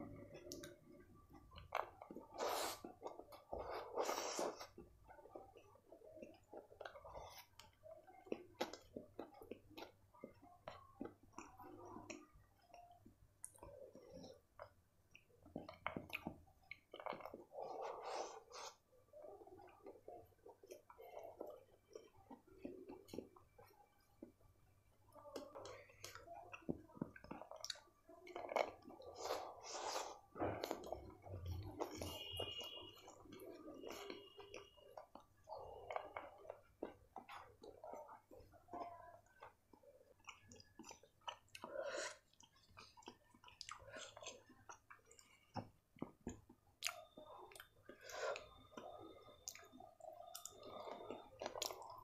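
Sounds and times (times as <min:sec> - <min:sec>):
chewing crispy noodles: 0:00.1 - 0:52.0.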